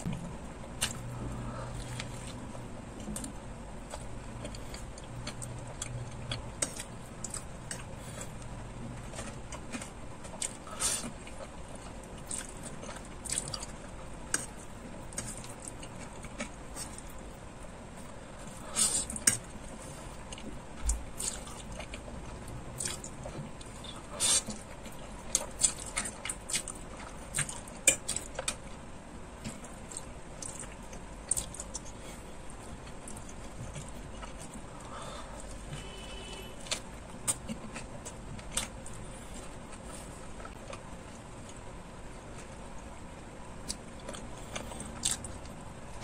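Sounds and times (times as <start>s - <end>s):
wet chewing: 0.8s - 17.3s, 18.0s - 28.7s, 29.4s - 41.6s, 43.6s - 46.0s.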